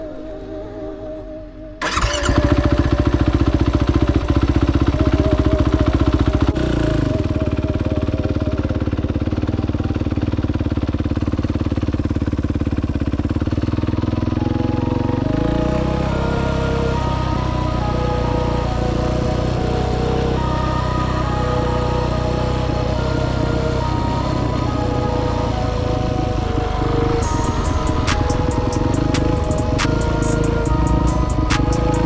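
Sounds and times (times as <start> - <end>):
engine running hard: 1.8 - 32.0.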